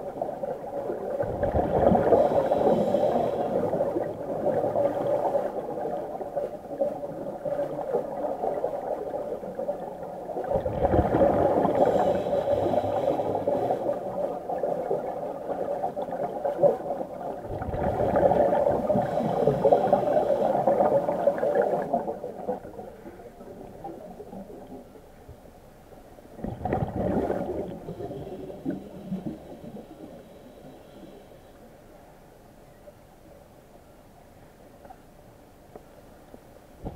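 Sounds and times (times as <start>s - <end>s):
underwater bubbling and gurgling: 0.0s - 33.1s, 34.4s - 36.9s.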